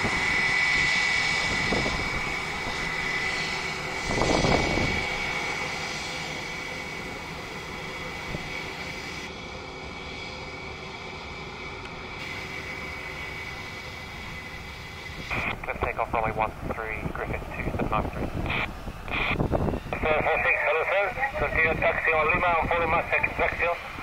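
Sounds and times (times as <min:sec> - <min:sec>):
jet engines whining: 0:00.0 - 0:24.0.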